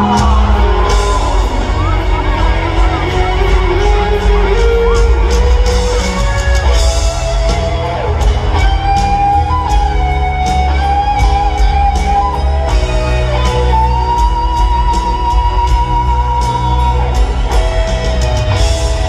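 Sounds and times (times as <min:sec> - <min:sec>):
electric guitar solo: 0:00.0 - 0:19.0
live rock band: 0:00.0 - 0:19.0.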